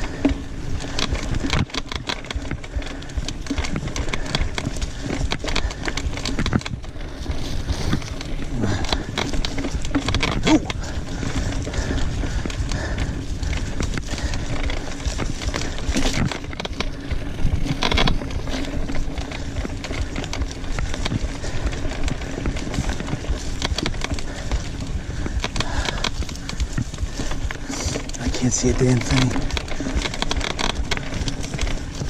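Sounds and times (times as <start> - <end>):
bike rattling and knocking: 0.0 - 32.0
tyres rumbling on dirt: 0.0 - 32.0.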